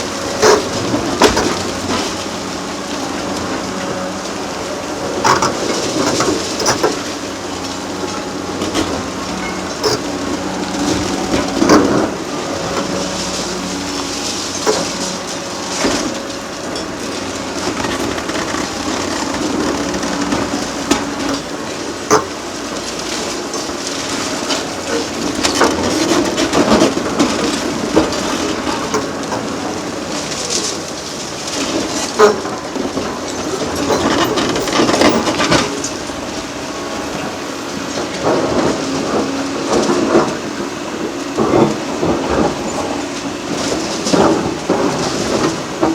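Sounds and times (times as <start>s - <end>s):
concrete crunching: 0.0s - 45.9s
excavator running: 0.0s - 45.9s
debris knocks and clanks: 0.3s - 40.6s.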